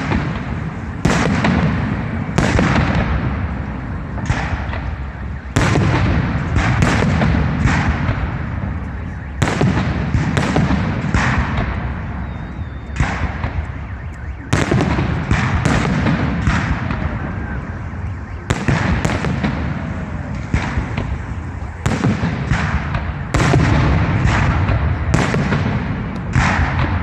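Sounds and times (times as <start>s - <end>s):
fireworks bursting with loud bangs: 0.0s - 27.0s.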